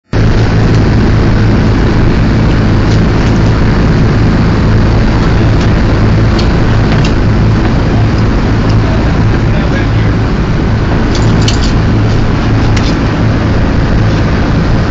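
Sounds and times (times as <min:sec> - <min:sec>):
constant rushing noise: 0:00.0 - 0:14.9
propeller engines droning: 0:00.0 - 0:14.9.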